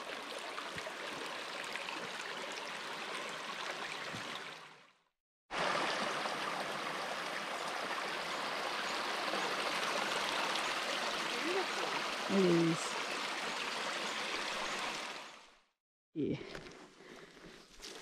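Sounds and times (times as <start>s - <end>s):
creek trickling over stones: 0.0s - 4.9s, 5.5s - 15.4s.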